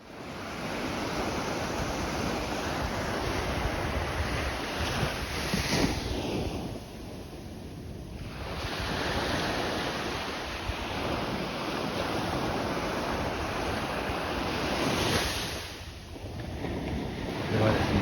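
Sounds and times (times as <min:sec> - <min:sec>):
sea waves surging: 0:00.0 - 0:07.5, 0:08.1 - 0:18.0.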